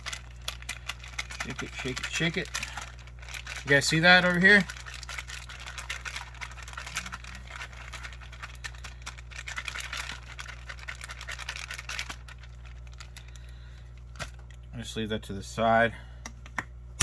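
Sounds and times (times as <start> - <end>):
heater pack scratchy crackle: 0.0 - 15.8.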